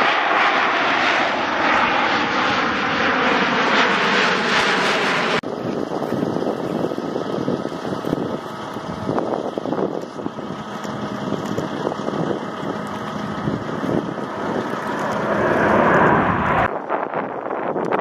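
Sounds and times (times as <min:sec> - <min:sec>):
jet planes flying overhead: 0:00.0 - 0:18.0.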